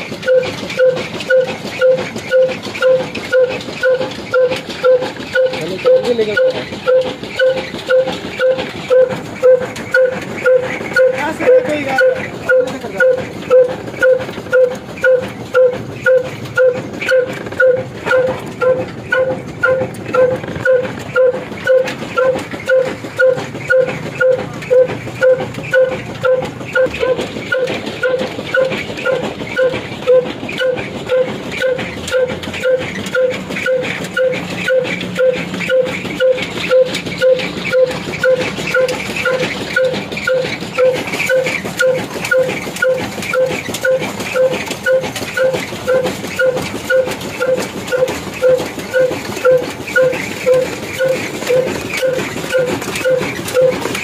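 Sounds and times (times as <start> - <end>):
diesel engine and oil expeller running: 0.0 - 54.0.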